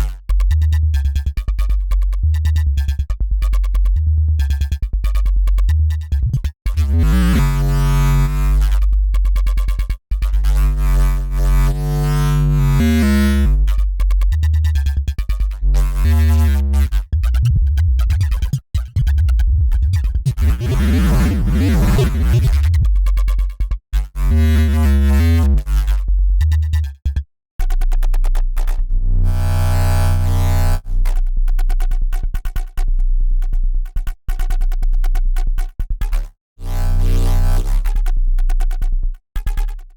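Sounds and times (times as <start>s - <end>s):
distorted synth bass riff: 0.0s - 39.9s.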